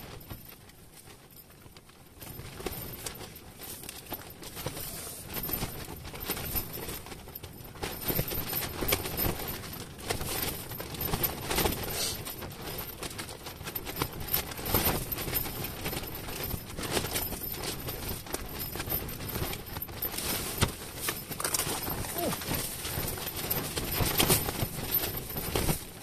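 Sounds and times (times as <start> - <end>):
tent fabric flapping in wind: 0.0 - 26.0.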